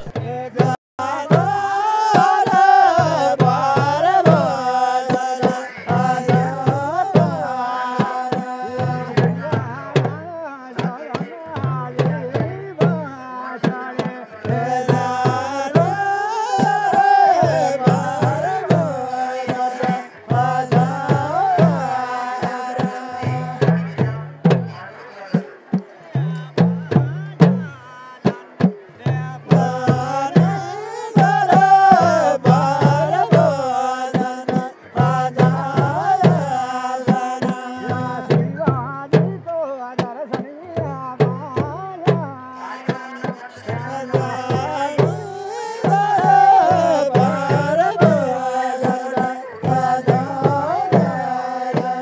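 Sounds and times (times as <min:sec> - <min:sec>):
man singing: 0:00.0 - 0:52.0.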